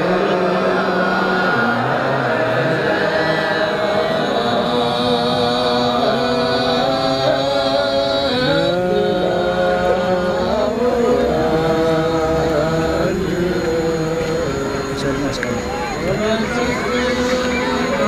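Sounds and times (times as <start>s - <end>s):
voices chanting slow melody: 0.0s - 18.0s.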